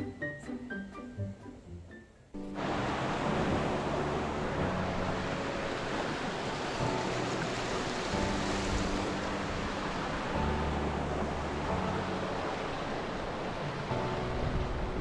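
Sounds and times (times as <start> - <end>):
background music with held notes: 0.0 - 15.0
steady rushing noise: 2.4 - 15.0.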